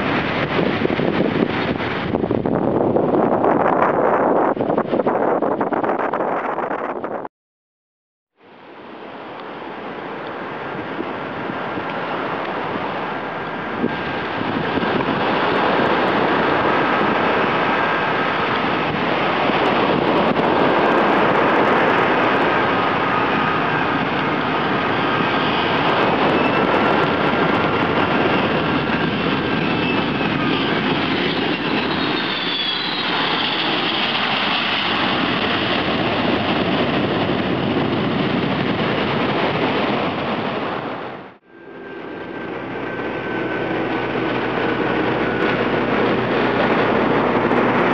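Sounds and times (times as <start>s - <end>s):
jet engines roaring overhead: 0.0s - 7.2s, 8.4s - 47.9s.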